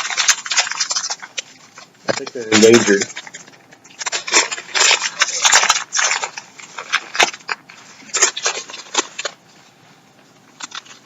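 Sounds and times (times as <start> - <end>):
plastic bag crinkling and tearing: 0.0 - 9.7, 10.4 - 11.0.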